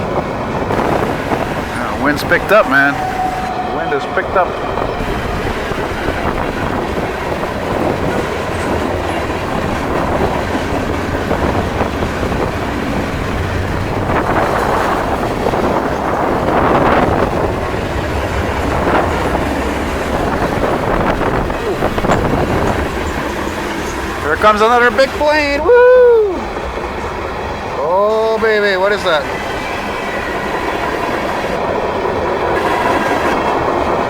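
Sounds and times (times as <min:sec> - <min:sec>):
wind on microphone: 0:00.0 - 0:27.7
train wheels on rails: 0:00.0 - 0:34.0.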